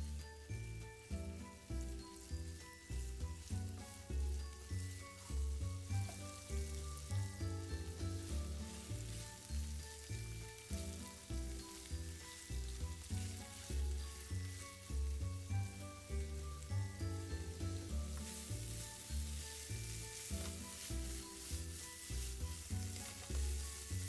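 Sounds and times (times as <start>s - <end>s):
background music with bass line: 0.0s - 24.0s
food sizzling in oil: 0.0s - 24.0s
spatula stirring in a pan: 2.1s - 15.5s, 16.3s - 24.0s.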